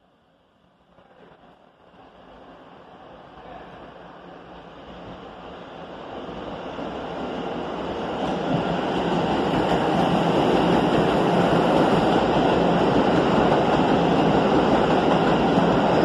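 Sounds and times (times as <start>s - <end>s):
subway train wheels on rails: 0.0s - 16.0s.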